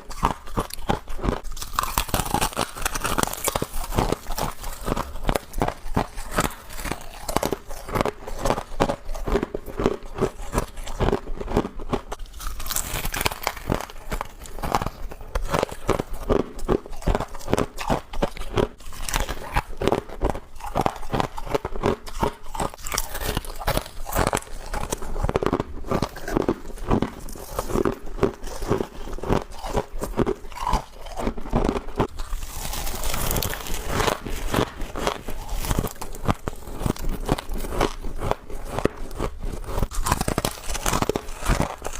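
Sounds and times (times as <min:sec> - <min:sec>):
chewing crunching ice: 0:00.0 - 0:41.9.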